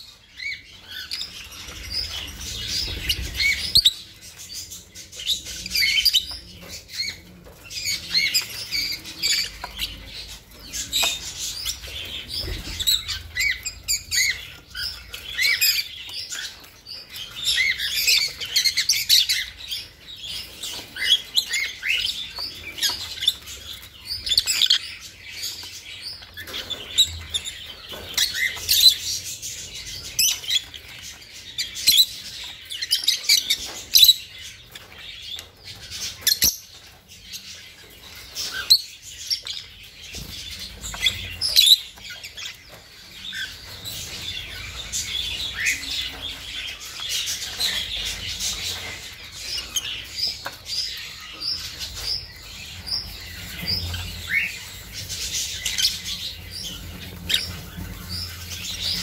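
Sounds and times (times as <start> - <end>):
budgies chirping: 0.0 - 59.0.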